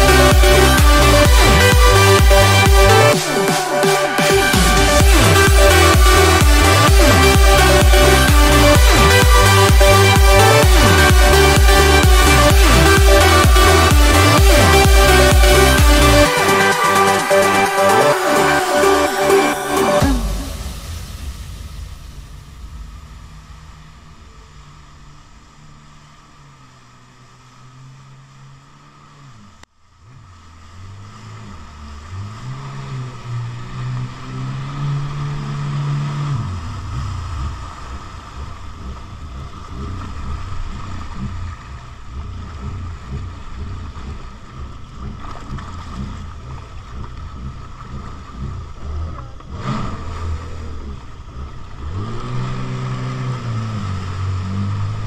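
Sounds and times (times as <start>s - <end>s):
jet ski engine: 0.0s - 55.0s.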